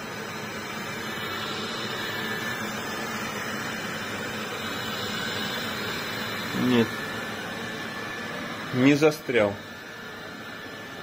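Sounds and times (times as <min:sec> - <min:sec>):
robot vacuum whirring: 0:00.1 - 0:11.0.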